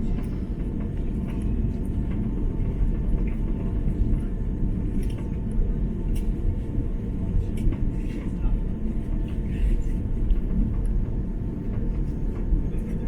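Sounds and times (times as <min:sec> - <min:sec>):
airliner engines and wheels rumbling: 0:00.0 - 0:13.0.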